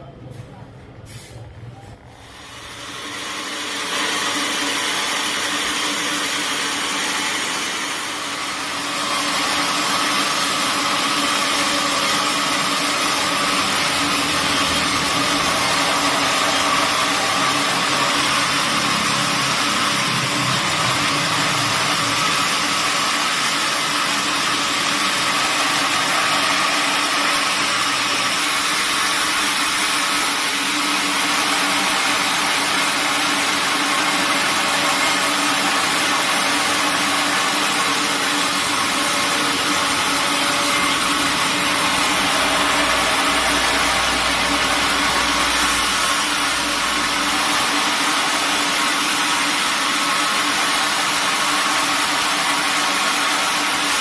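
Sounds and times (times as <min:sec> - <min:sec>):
sawmill machinery running: 0:02.1 - 0:54.0.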